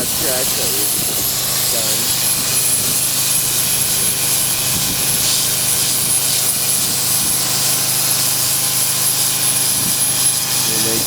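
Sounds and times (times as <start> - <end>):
power grinder whining: 0.0 - 11.0.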